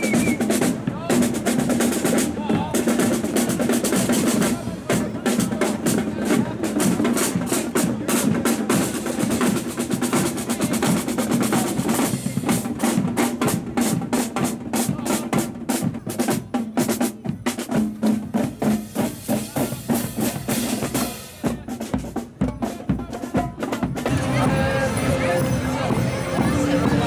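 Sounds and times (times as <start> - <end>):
snare drum rolls: 0.0 - 22.6.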